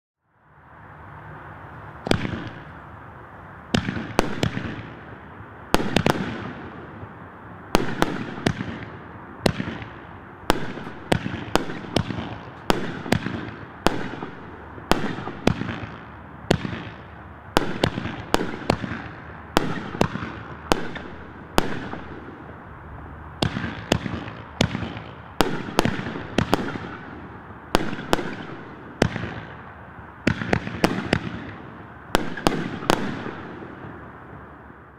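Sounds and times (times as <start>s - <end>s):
fireworks battery bangs: 2.0s - 2.9s, 3.6s - 22.6s, 23.4s - 34.3s.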